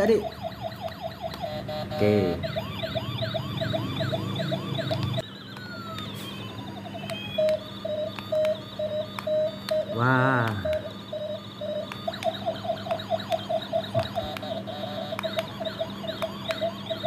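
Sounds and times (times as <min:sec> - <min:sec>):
pulsing electronic beep: 0:00.0 - 0:17.0
toy electronic siren wailing: 0:00.0 - 0:17.0.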